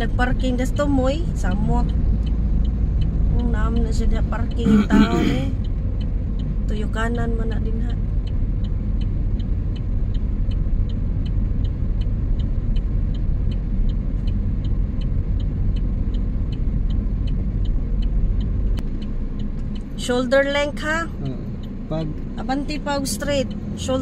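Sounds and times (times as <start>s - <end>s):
engine and road rumble: 0.0s - 24.0s
turn signal ticking: 0.0s - 24.0s.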